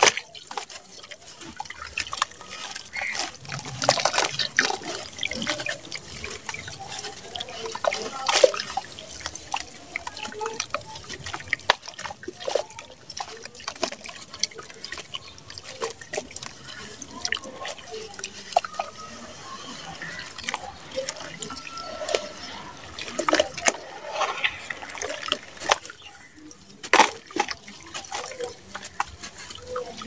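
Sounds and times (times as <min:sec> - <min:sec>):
wet sand splashing into water: 0:00.0 - 0:30.0.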